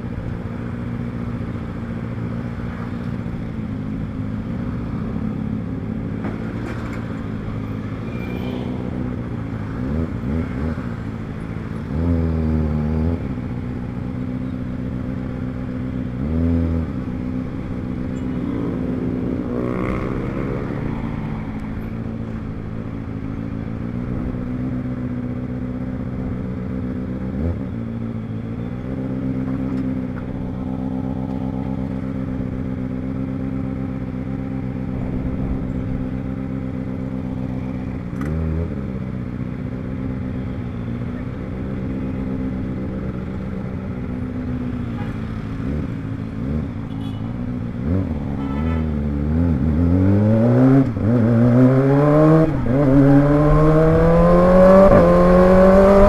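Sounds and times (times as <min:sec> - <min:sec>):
motorcycle engine revving: 0:08.7 - 0:56.0.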